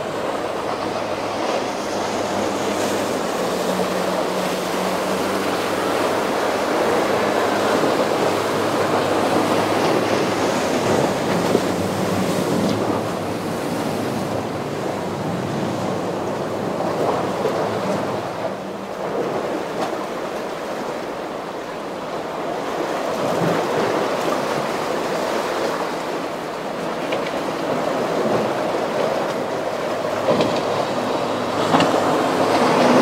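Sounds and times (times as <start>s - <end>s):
boat engine drone: 0.0s - 33.0s
surf and churning whitewater: 0.0s - 33.0s.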